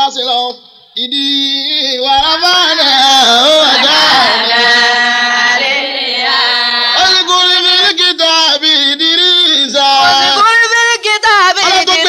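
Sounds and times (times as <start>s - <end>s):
person chanting a religious verse: 0.0s - 12.0s.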